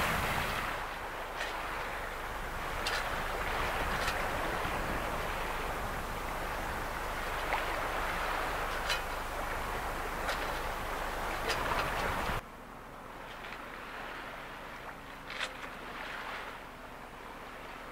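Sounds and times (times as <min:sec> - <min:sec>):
water rushing: 0:00.0 - 0:17.9
waves splashing: 0:00.0 - 0:17.9
wind: 0:00.0 - 0:17.9.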